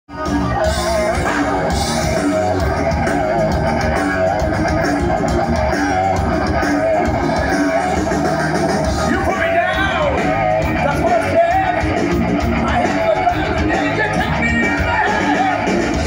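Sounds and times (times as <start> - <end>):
bass guitar: 0.1 - 16.0
drums: 0.1 - 16.0
electric guitar with vibrato: 0.1 - 16.0.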